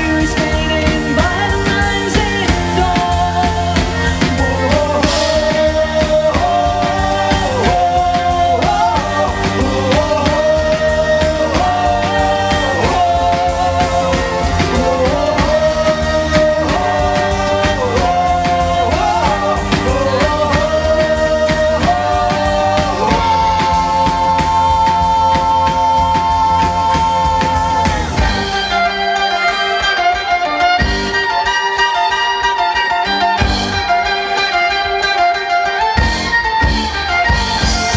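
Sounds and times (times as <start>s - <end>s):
drumbeat: 0.0s - 31.5s, 36.0s - 37.9s
person singing: 0.0s - 37.9s.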